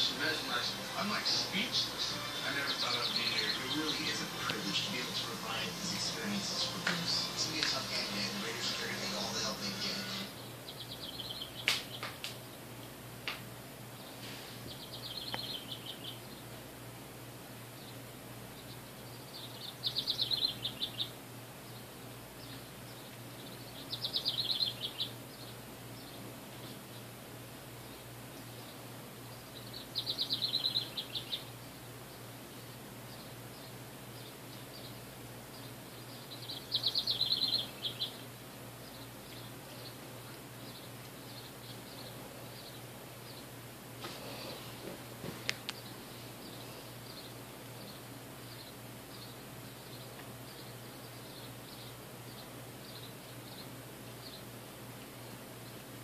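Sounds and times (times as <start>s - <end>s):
wren singing trilled notes: 0.0s - 12.7s, 14.7s - 16.5s, 17.7s - 27.2s, 27.8s - 44.6s, 45.6s - 56.0s.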